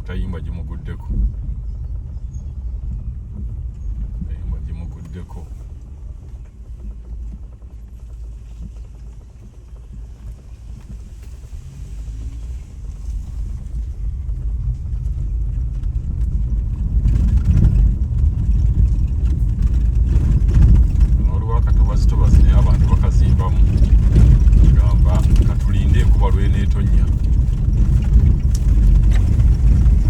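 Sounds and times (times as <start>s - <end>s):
vehicle road rumble: 0.0s - 30.0s
wind noise: 0.0s - 30.0s.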